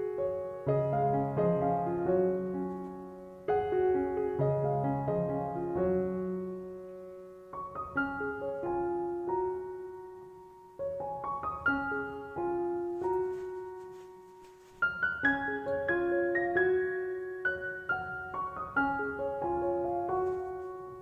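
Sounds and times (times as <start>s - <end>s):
slow solo piano music: 0.0s - 21.0s.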